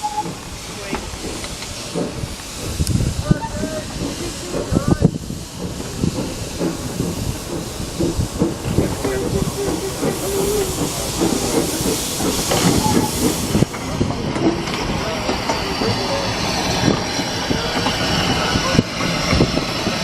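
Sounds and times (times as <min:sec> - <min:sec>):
steam engine hissing: 0:00.0 - 0:20.0.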